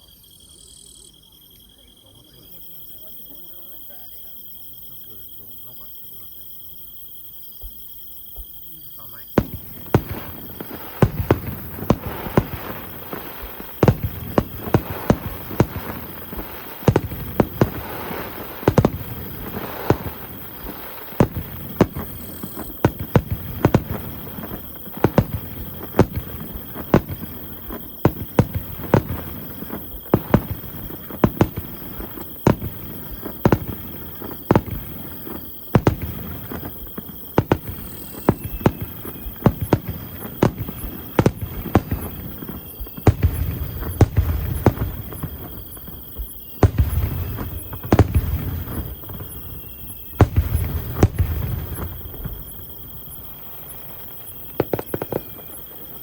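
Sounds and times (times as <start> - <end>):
fireworks bangs: 9.0 - 56.0.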